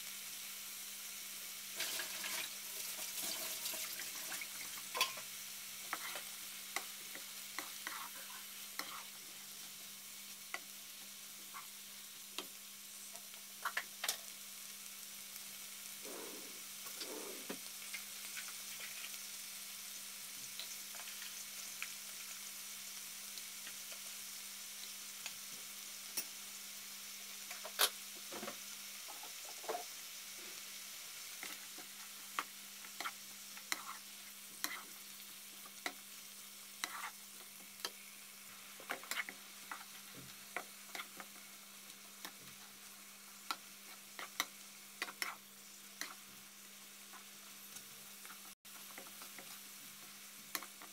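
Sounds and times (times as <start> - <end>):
vegetables sizzling in a wok: 0.0 - 50.9.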